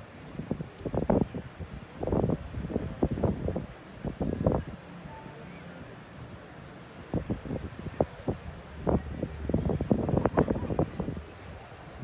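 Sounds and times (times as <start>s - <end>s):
wind buffeting microphone: 0.0s - 4.9s, 7.0s - 12.0s.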